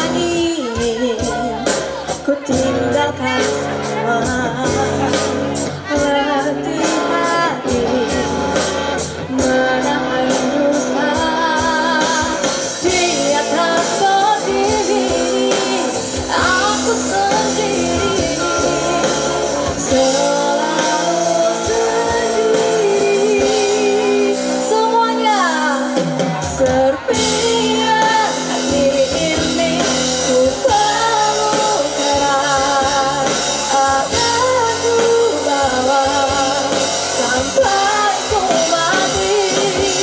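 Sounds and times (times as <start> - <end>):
live pop music with singer: 0.0 - 40.0.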